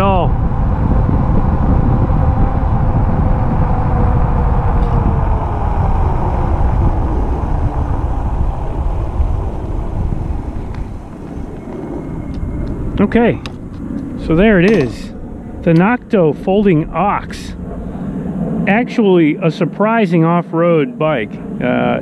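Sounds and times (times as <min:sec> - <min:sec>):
electric bike motor whine: 0:00.0 - 0:15.7, 0:16.5 - 0:18.7
wind buffeting microphone: 0:00.0 - 0:22.0.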